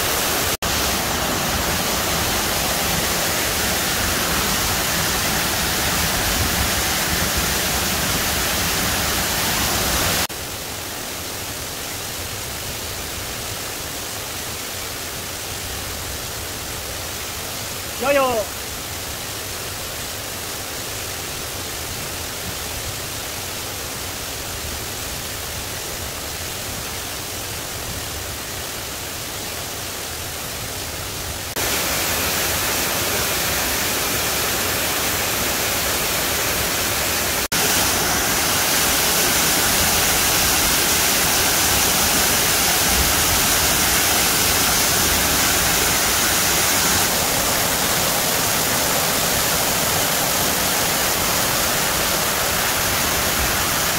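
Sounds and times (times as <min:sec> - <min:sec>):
stream and waterfall rushing: 0:00.0 - 0:53.9.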